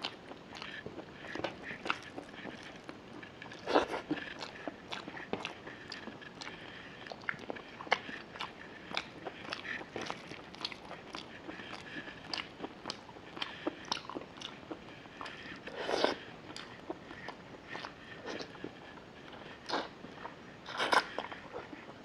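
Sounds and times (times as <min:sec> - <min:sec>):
wet chewing and lip smacking: 0:00.0 - 0:21.9.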